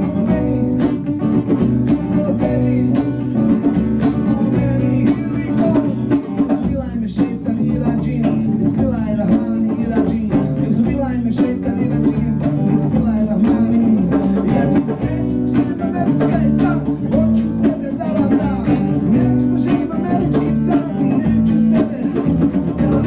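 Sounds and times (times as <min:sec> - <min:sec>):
drum kit beat: 0:00.0 - 0:23.0
guitar: 0:00.0 - 0:23.0.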